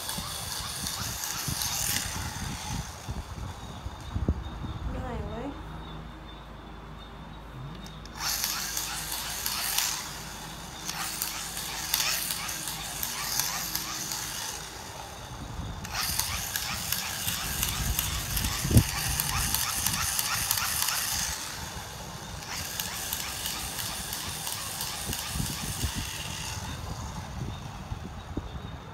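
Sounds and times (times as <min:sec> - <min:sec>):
bubble machine whirring and clicking: 0:00.0 - 0:04.4, 0:07.5 - 0:28.8.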